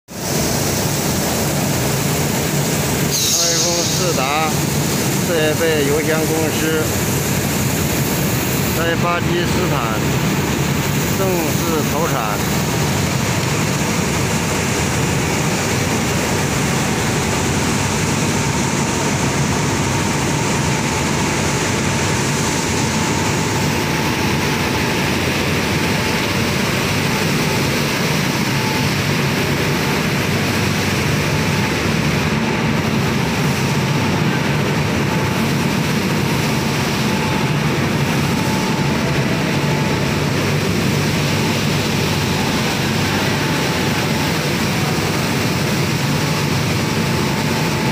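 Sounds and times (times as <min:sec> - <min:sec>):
machinery running: 0:00.2 - 0:47.9.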